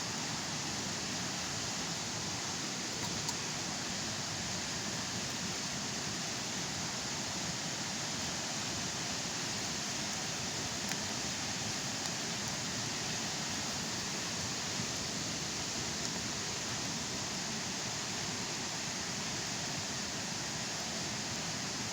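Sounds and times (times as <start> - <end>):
flowing water rushing: 0.0 - 21.9.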